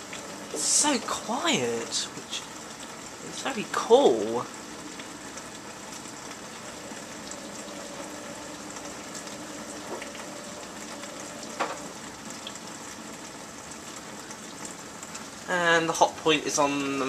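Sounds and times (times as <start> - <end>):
pump hum: 0.0 - 17.0
water spraying inside dishwasher: 0.0 - 17.0.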